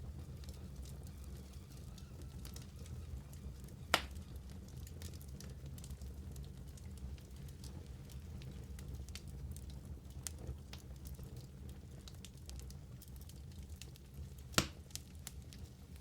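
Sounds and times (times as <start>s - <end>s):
fire rumbling and crackling: 0.0s - 16.0s.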